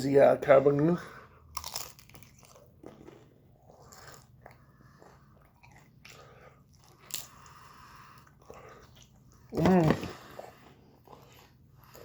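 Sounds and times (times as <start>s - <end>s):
person chewing crunchy food: 1.4s - 12.0s.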